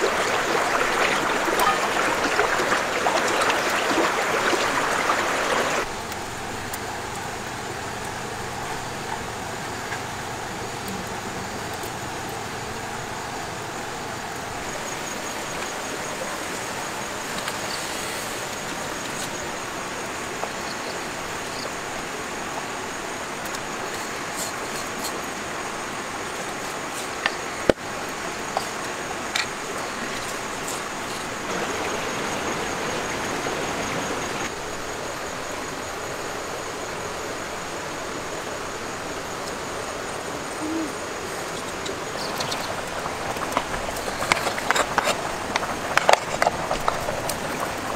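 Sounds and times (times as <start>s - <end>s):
wood fire hissing and crackling: 0.0s - 47.9s.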